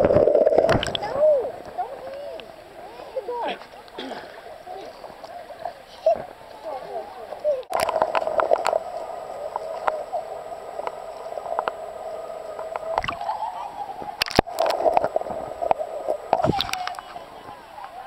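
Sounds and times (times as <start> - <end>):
muffled underwater river water: 0.0 - 18.0
water gurgles: 0.0 - 18.0.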